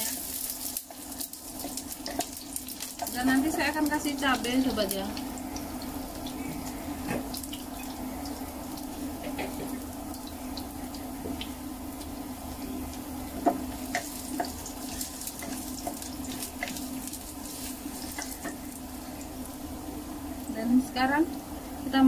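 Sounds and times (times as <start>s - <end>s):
garlic frying in oil: 0.0s - 22.0s.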